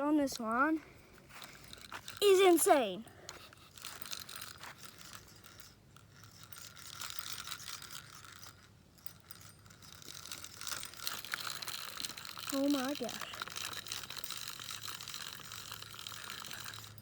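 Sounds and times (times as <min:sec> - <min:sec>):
fishing reel clicking whir: 0:01.1 - 0:17.0.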